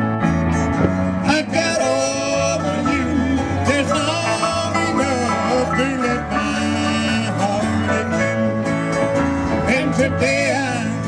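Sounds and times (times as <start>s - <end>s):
live country band playing: 0.0s - 11.0s.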